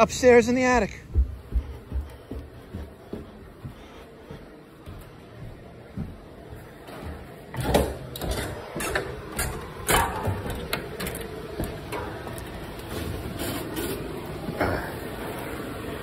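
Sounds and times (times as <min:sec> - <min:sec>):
footsteps on wooden ladder: 0:00.0 - 0:14.1.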